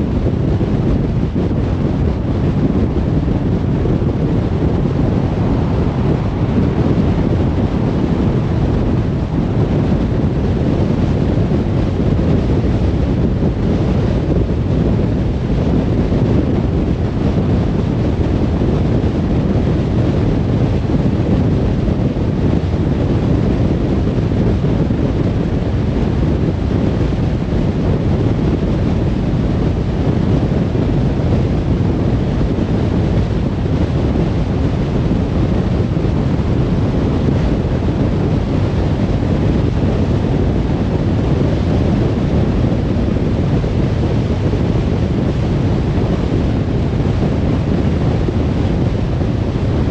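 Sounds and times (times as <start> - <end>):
car road and wind noise: 0.0 - 49.9.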